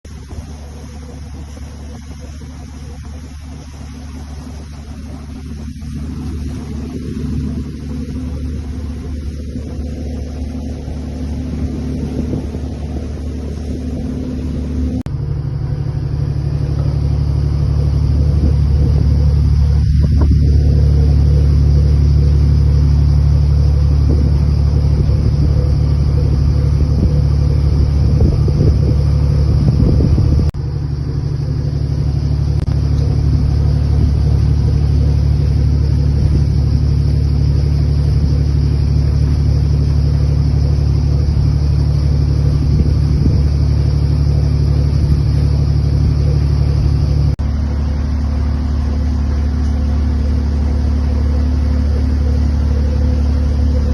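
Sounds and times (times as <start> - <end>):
boat engine droning: 0.0 - 53.9.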